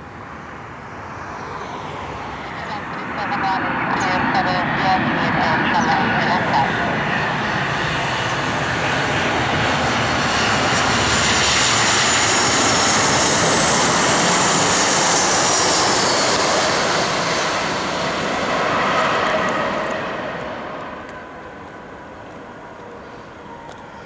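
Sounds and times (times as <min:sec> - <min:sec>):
high engine whine: 0:00.0 - 0:24.0
jet airliner landing: 0:00.0 - 0:24.0.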